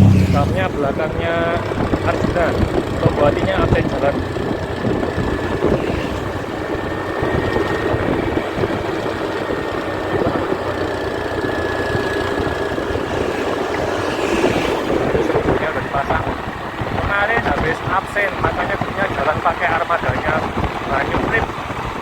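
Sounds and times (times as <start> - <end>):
vehicle engine with road noise: 0.0 - 22.0.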